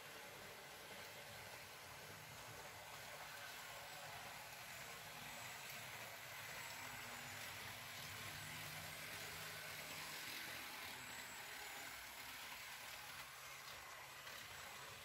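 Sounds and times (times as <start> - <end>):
model trains running on track: 0.0 - 15.0.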